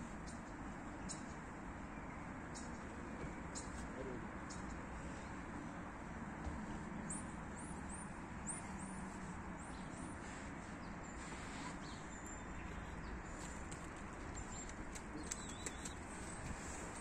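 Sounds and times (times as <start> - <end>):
small birds chirping: 0.2 - 5.4, 7.0 - 17.0.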